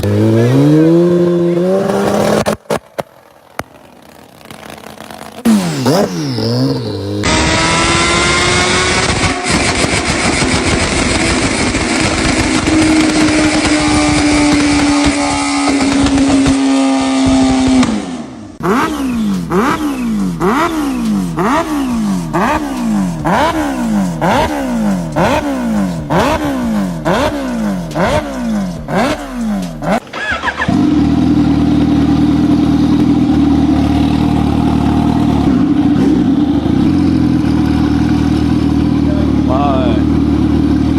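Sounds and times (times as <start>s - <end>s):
motorcycle engine revving: 0.0s - 40.9s
motorcycle engine running hard: 3.6s - 30.0s, 30.6s - 40.9s.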